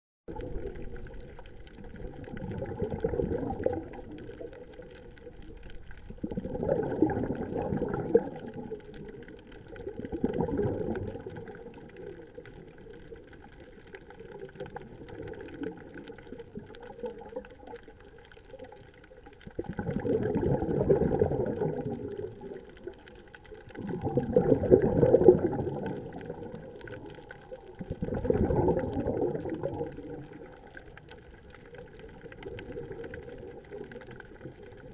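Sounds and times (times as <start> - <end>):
underwater regulator bubbling: 0.3 - 34.9.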